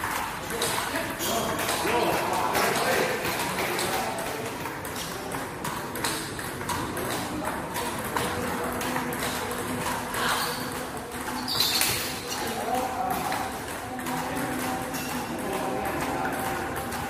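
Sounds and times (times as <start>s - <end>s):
table tennis ball clicking: 0.0s - 17.0s.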